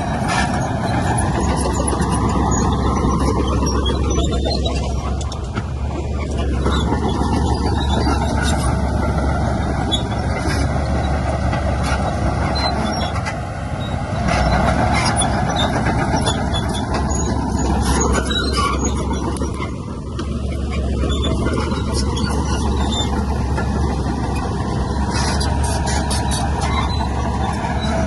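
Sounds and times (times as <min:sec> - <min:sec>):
diesel machinery engine running: 0:00.0 - 0:28.0.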